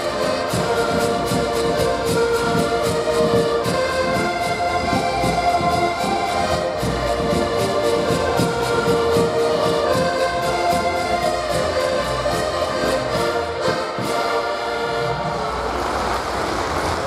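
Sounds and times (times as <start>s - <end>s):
accordion ensemble playing: 0.0s - 17.0s.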